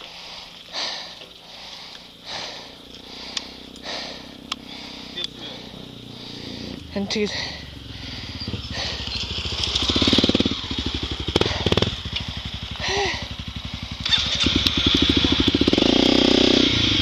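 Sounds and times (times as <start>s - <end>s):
dirt bike engine idling and revving: 0.0s - 17.0s.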